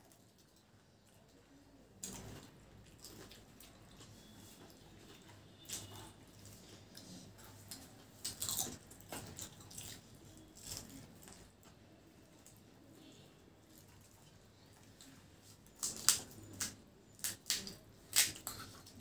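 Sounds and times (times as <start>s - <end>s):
chewing: 0.0s - 12.9s, 13.6s - 19.0s.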